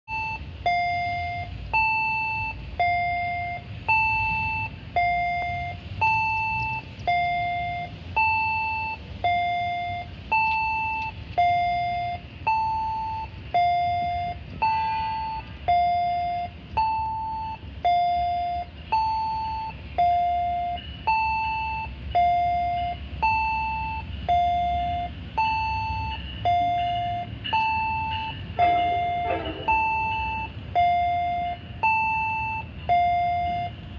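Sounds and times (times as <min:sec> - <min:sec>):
low steady rumble: 0:00.1 - 0:33.9
two-tone railway warning chime: 0:00.1 - 0:33.9.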